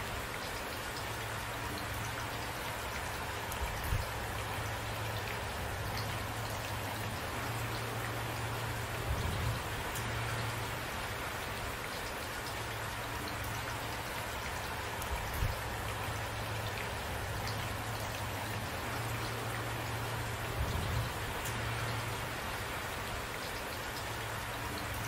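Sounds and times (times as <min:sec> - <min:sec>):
steady rain hissing: 0:00.0 - 0:25.0.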